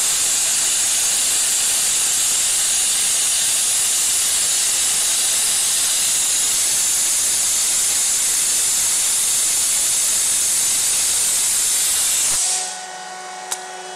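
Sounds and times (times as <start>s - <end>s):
high-pressure fluid spray hiss: 0.0s - 12.8s.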